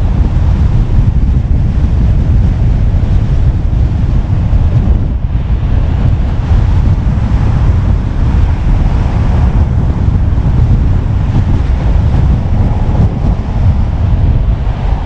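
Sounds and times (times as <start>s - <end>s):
car road and wind rumble: 0.0s - 15.0s.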